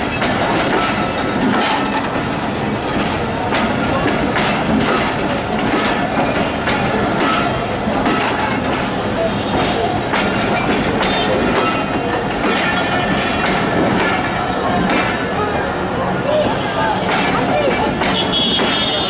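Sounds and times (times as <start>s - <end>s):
train rumble: 0.0s - 19.0s
train wheels clicking over rail joints: 0.0s - 19.0s.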